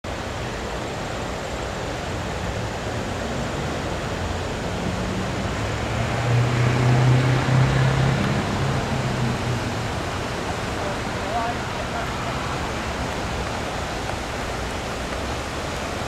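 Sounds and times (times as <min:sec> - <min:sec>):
river rushing: 0:00.1 - 0:16.0
low engine hum: 0:02.7 - 0:16.0.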